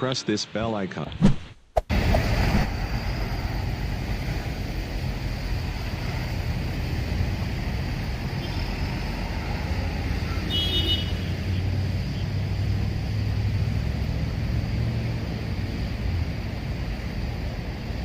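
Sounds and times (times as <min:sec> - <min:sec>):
road traffic rumble: 0:01.9 - 0:18.0.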